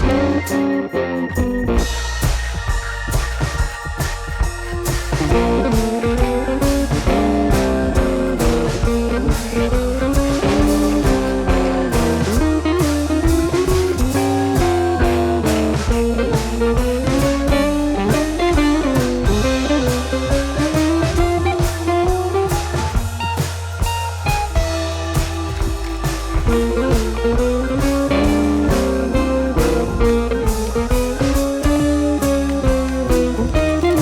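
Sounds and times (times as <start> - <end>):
bass: 0.0 - 34.0
bluesy electric guitar melody: 0.0 - 34.0
drum-kit beat: 0.0 - 34.0.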